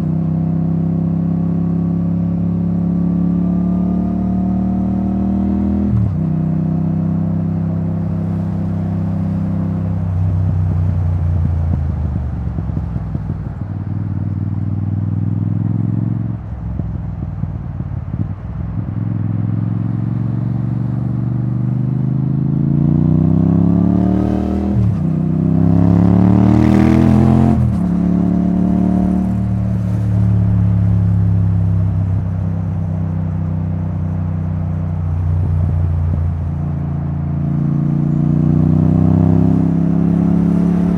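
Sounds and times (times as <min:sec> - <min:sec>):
motorcycle engine cruising: 0:00.0 - 0:40.9
motorcycle engine revving: 0:03.4 - 0:32.9, 0:35.2 - 0:40.9.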